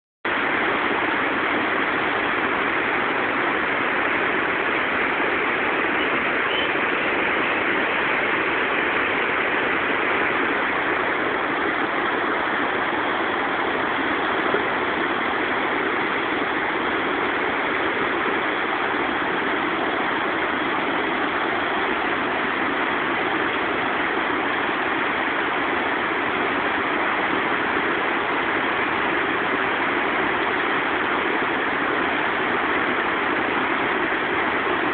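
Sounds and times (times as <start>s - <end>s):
rushing whitewater rapids: 0.3s - 34.9s.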